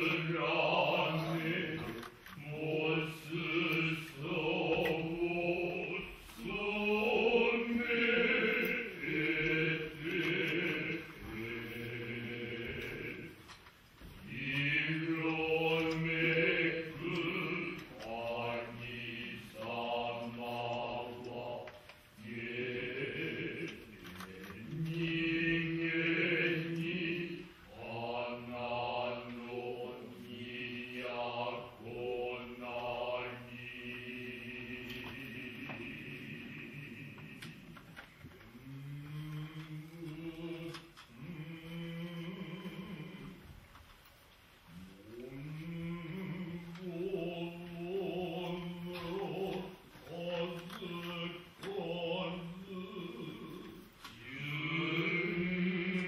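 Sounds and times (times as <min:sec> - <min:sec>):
chorus chanting: 0:00.0 - 0:43.8, 0:44.6 - 0:56.0.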